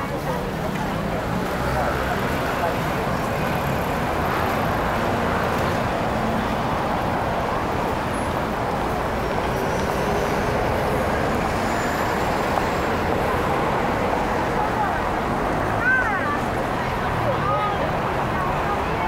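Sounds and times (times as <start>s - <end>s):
bus passing: 0.0s - 19.0s
cars passing: 0.0s - 19.0s
city street traffic: 0.0s - 19.0s.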